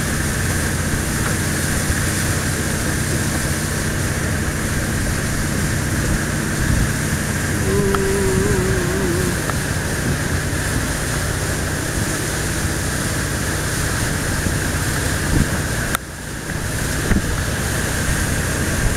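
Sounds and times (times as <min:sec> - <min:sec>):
boat engine running: 0:00.0 - 0:18.9
water rushing past hull: 0:00.0 - 0:18.9.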